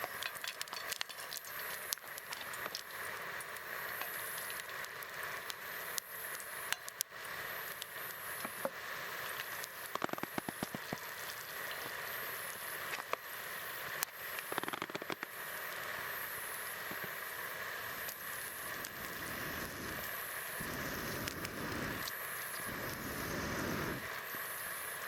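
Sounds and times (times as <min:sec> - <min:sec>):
campfire crackling and popping: 0:00.0 - 0:25.0
steady outdoor hiss: 0:00.0 - 0:25.0.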